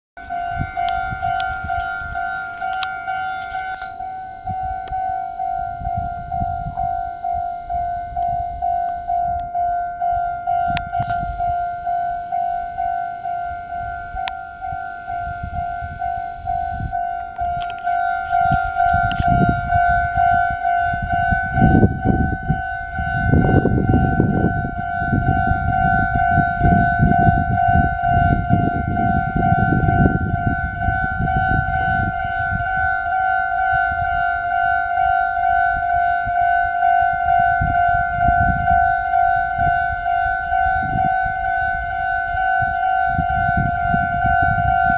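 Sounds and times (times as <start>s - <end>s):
level crossing warning bell: 0.2s - 44.9s.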